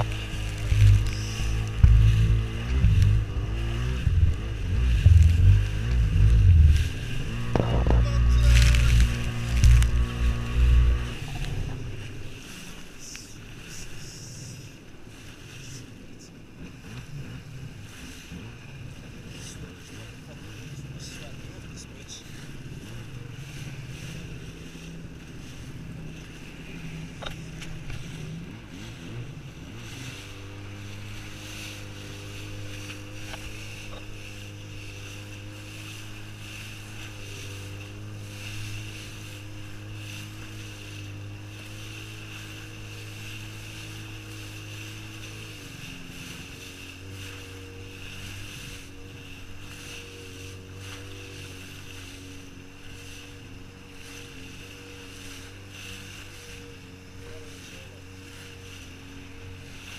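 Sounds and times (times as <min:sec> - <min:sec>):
jet ski engine running: 0:00.0 - 0:59.9
water noise: 0:00.0 - 0:59.9.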